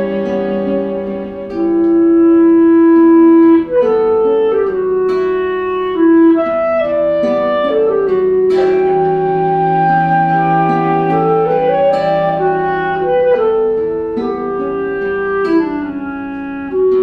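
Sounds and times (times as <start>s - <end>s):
slow woodwind melody: 0.0s - 17.0s.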